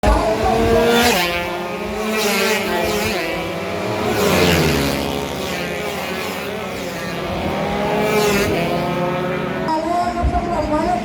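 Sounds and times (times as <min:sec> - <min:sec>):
racing motorcycle engines passing: 0:00.0 - 0:11.0.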